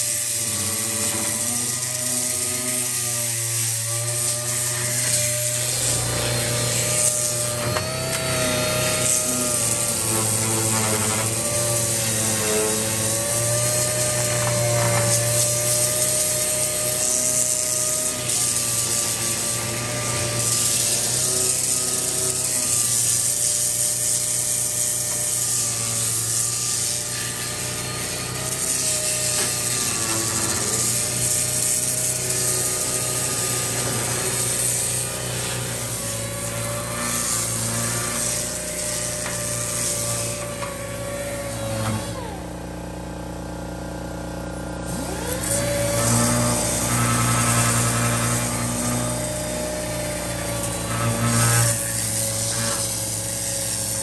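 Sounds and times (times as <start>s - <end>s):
pneumatic sander grinding metal: 0.0s - 54.0s.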